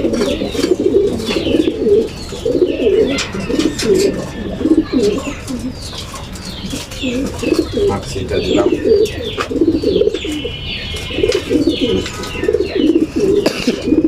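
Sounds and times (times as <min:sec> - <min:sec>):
higher chirping calls: 0:00.0 - 0:14.0
pigeons cooing: 0:00.0 - 0:14.0.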